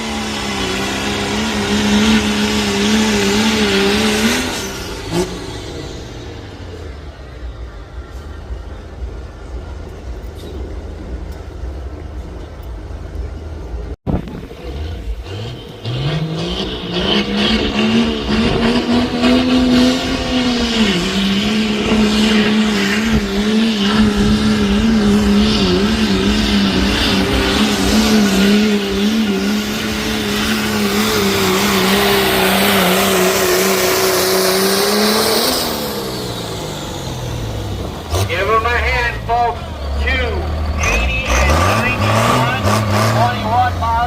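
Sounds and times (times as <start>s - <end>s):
truck engine pulling under load: 0.0s - 44.0s.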